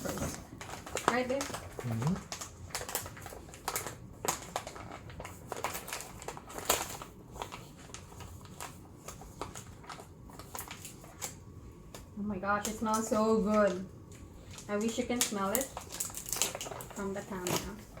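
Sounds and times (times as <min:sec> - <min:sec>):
coffee bag crinkling: 0:00.0 - 0:12.1, 0:12.7 - 0:18.0.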